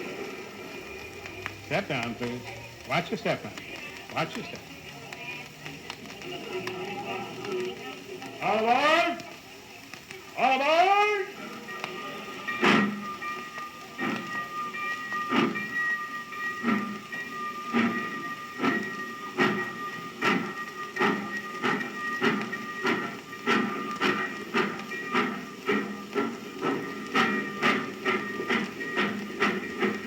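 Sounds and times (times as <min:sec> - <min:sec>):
steam locomotive chuffing: 0:00.0 - 0:30.0.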